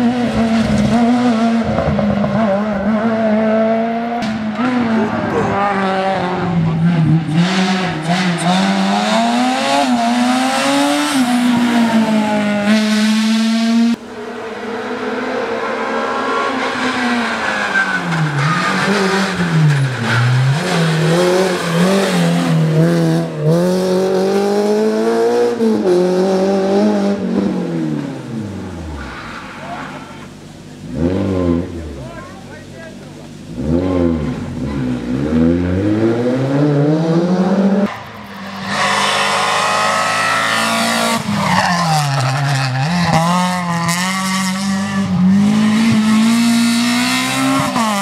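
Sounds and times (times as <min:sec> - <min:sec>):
car braking and accelerating: 0:00.0 - 0:48.0
rally car engine revving: 0:00.0 - 0:48.0.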